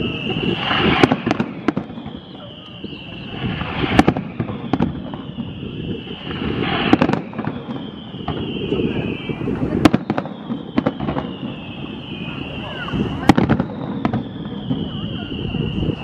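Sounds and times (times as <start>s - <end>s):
fireworks bursting with bangs: 0.0s - 16.0s
high whistling tone sliding down: 0.0s - 16.0s.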